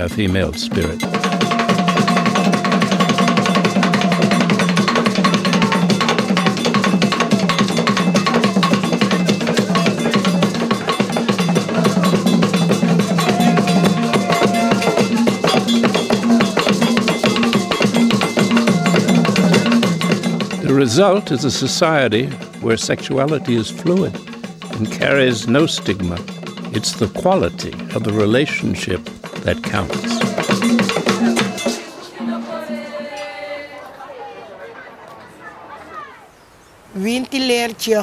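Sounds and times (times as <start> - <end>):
fast dense drumming: 0.9 - 31.8.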